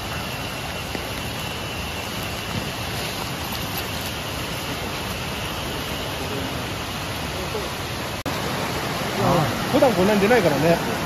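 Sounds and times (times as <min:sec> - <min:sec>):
rushing flowing water: 0:00.0 - 0:11.0.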